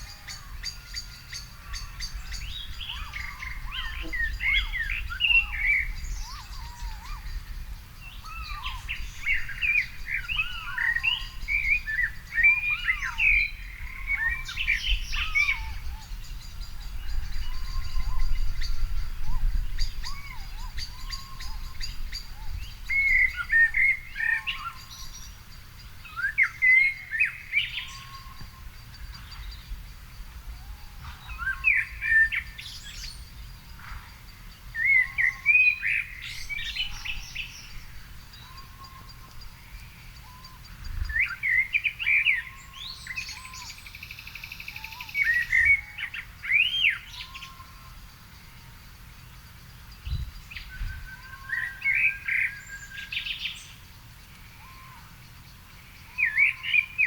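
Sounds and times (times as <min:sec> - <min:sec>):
songbirds singing and calling: 0:00.0 - 0:57.0.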